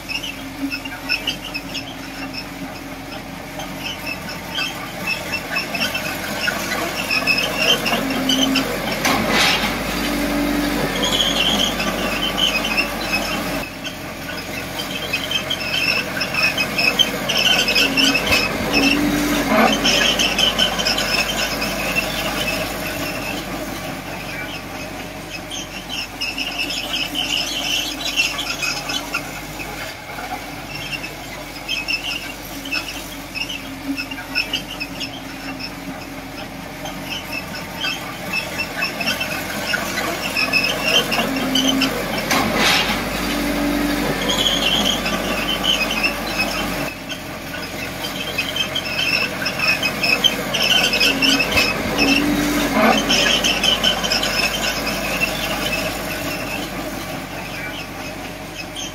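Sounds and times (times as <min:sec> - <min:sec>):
bulldozer tracks squealing: 0:00.0 - 0:58.9.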